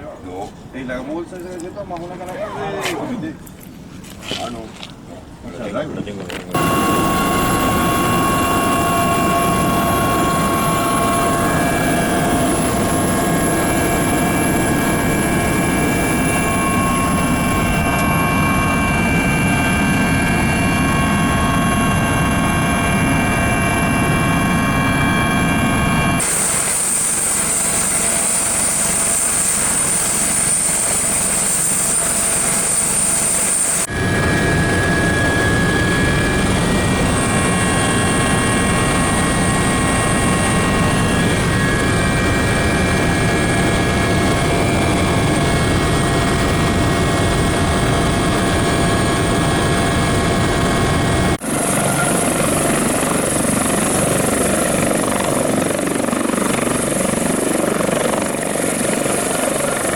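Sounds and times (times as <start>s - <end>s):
helicopter rotor and engine: 5.6s - 59.9s
high turbine whine: 6.5s - 59.9s.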